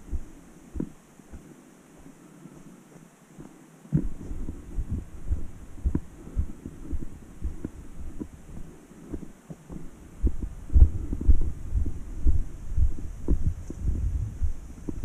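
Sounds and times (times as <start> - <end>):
footsteps on dirt trail: 0.0 - 15.0.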